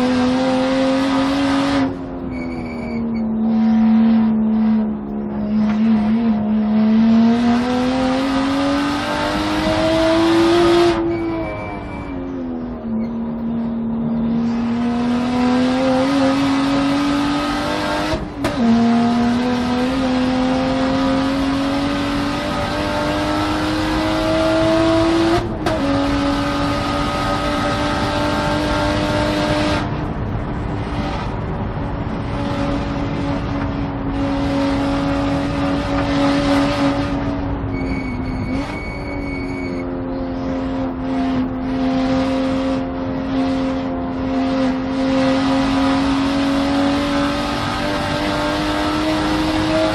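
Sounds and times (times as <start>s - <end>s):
race car engine accelerating: 0.0s - 49.9s.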